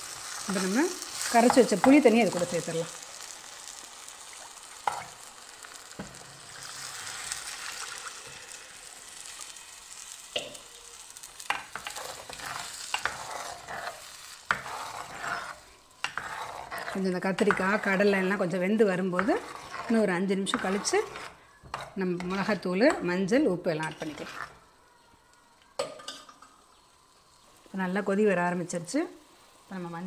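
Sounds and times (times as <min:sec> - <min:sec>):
frying sizzle: 0:00.0 - 0:30.0.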